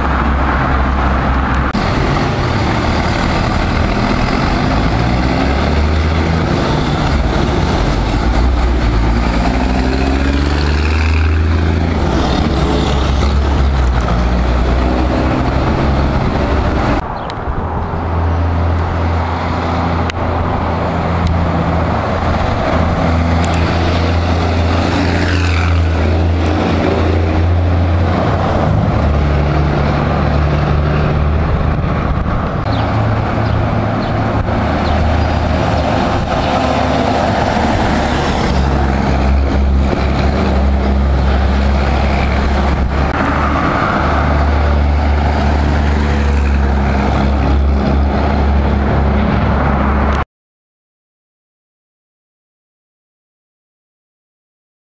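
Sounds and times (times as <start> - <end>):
truck diesel engine running loudly: 0.0 - 17.0, 18.2 - 50.1.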